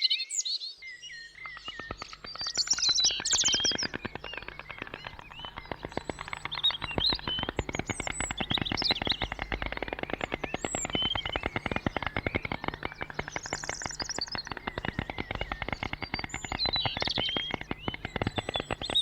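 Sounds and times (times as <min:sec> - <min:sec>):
flock of small birds chirping: 0:00.0 - 0:19.0.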